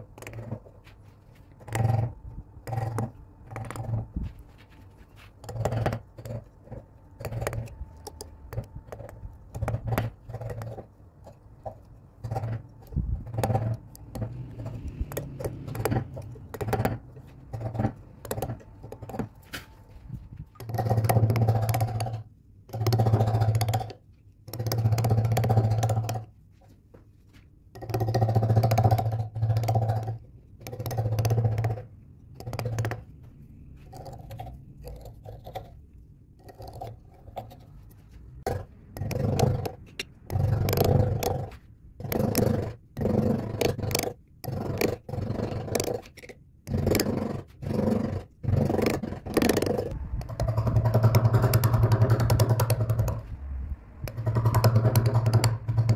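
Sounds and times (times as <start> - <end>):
carving gouge scraping wood: 0.0 - 26.3, 27.8 - 33.1, 36.4 - 53.2, 54.0 - 55.9.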